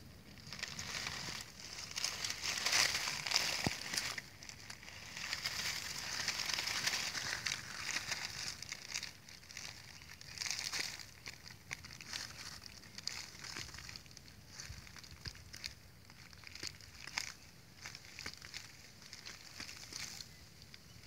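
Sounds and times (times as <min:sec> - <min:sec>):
dry leaves crackling and rustling: 0:00.1 - 0:21.0.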